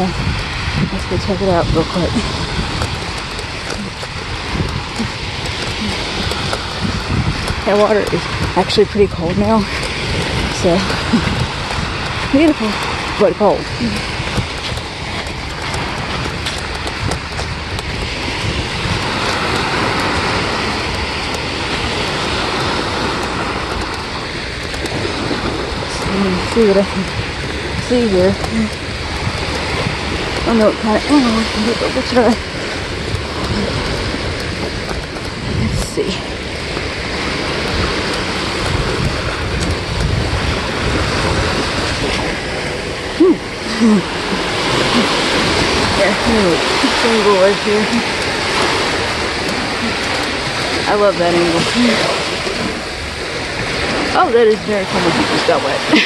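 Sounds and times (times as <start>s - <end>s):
small waves washing onto shore: 0.0s - 56.0s
wind on microphone: 0.0s - 56.0s.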